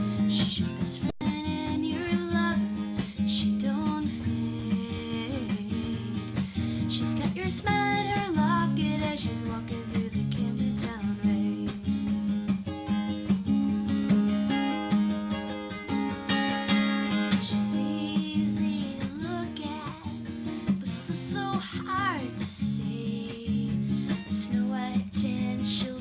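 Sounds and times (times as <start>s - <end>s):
person singing: 0.0s - 11.9s, 17.1s - 26.0s
acoustic guitar plucked notes: 0.0s - 26.0s.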